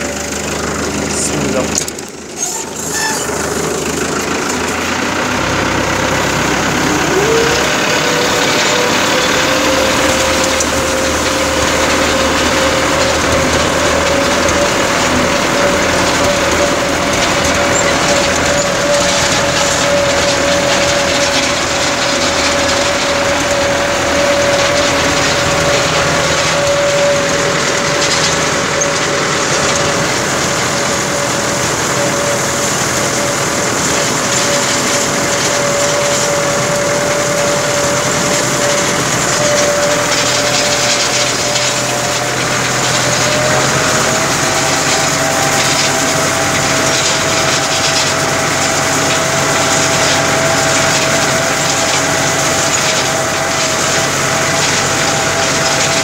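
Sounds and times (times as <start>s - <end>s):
hay rake whine: 0.0s - 56.0s
tractor diesel engine running: 0.0s - 56.0s.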